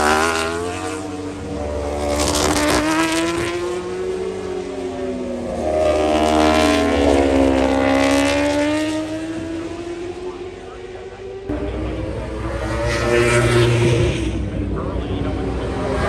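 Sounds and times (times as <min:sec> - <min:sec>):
racing motorcycle engines passing: 0:00.0 - 0:16.0.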